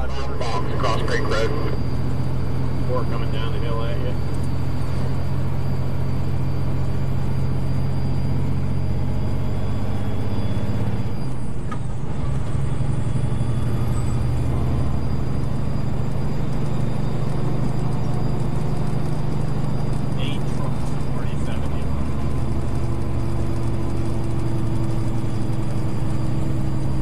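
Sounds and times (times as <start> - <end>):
road noise: 0.0 - 27.0
vehicle engine running: 0.0 - 27.0.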